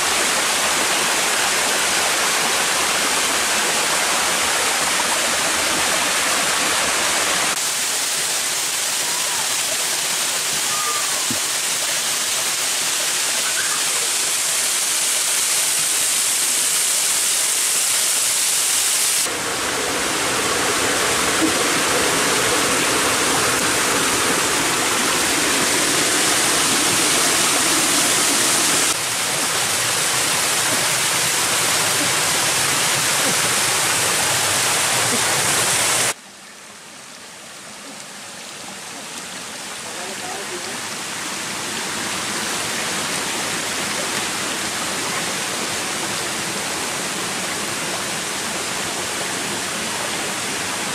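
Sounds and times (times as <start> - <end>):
stream cascading over boulders: 0.0 - 50.9.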